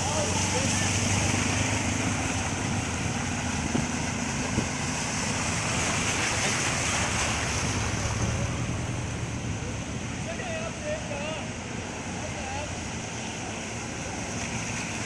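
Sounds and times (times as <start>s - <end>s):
rain and rushing water: 0.0s - 15.0s
vehicles driving through water: 0.0s - 15.0s.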